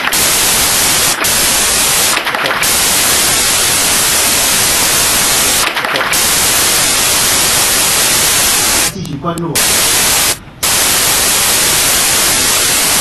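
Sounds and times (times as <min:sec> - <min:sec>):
loud static hiss: 0:00.0 - 0:13.0.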